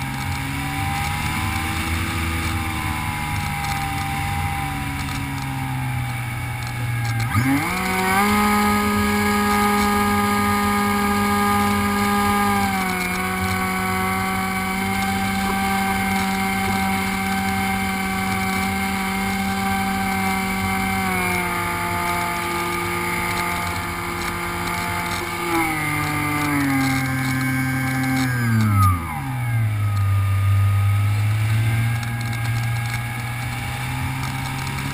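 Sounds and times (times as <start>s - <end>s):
model plane motor buzzing: 0.0s - 34.9s.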